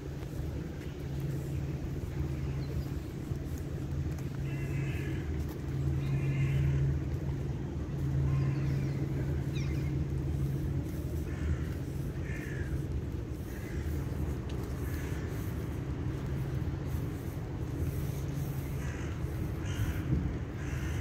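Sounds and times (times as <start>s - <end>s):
distant city traffic rumble: 0.0s - 21.0s.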